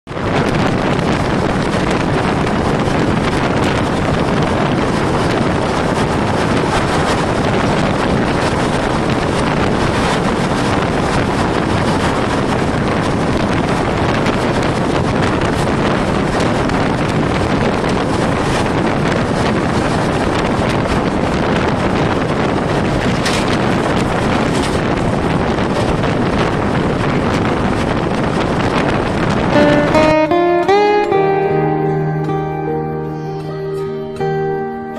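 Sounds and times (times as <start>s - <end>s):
wind buffeting microphone: 0.0s - 34.9s
train running: 0.1s - 34.9s.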